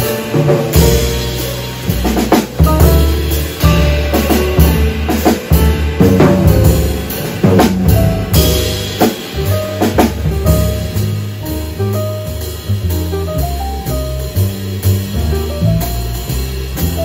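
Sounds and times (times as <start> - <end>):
drum kit: 0.0 - 17.0
grand piano: 0.0 - 17.0
plucked upright bass: 0.0 - 17.0.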